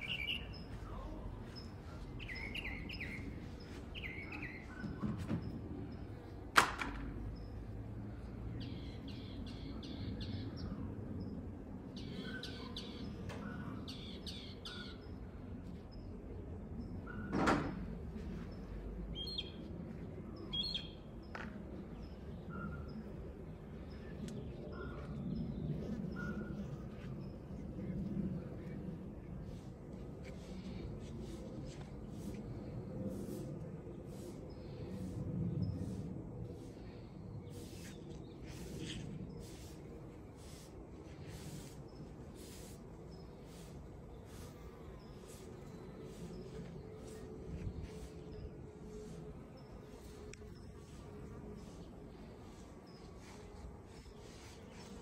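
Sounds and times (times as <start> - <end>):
faint low rumble: 0.0 - 13.9, 15.0 - 55.0
songbirds chirping: 0.0 - 55.0.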